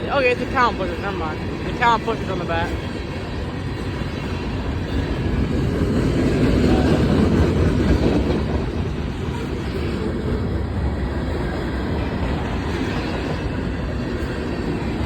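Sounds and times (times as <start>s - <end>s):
diesel locomotive rumble: 0.0s - 15.0s
train wheels on rails: 0.0s - 15.0s.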